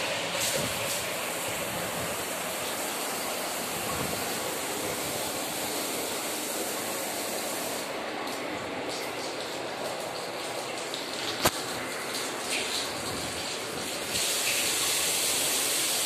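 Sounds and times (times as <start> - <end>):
shower water splashing: 0.0 - 16.0.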